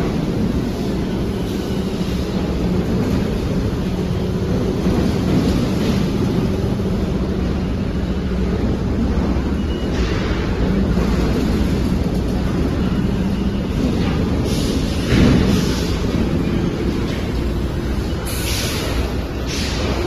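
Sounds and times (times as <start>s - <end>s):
constant hum: 0.0s - 20.0s.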